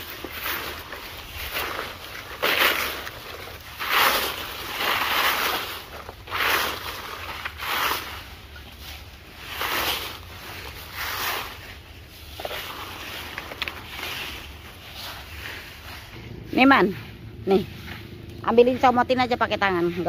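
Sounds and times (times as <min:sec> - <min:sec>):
broom sweeping: 0:00.0 - 0:20.0.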